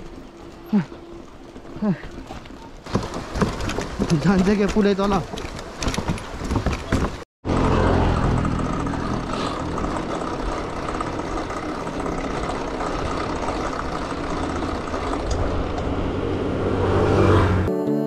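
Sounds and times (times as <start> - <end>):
bicycle wheels on wooden planks: 0.0 - 16.1
bike tyre hum on asphalt: 0.0 - 17.7.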